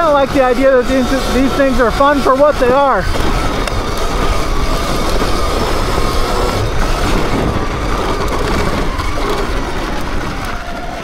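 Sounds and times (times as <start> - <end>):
electric motor whine: 0.0 - 11.0
tyres and chain rumbling: 0.0 - 11.0.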